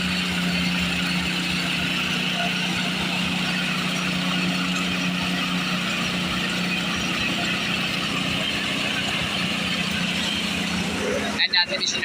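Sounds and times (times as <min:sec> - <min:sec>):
paving machine engine humming: 0:00.0 - 0:12.0.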